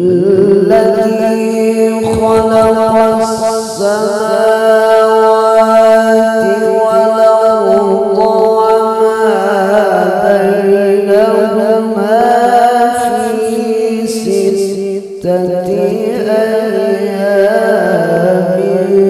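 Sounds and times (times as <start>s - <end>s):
man reciting melismatically: 0.0s - 19.0s.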